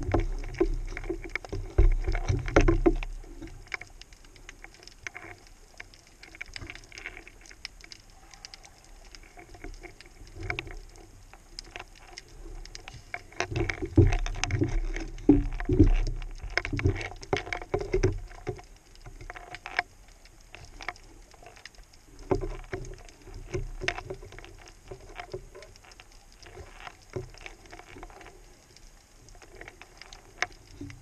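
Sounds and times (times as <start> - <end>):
underwater handling clicks and knocks: 0.0 - 31.0.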